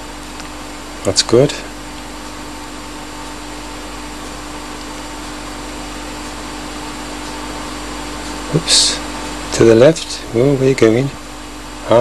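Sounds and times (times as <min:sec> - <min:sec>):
whirring hum with hiss: 0:00.0 - 0:12.0.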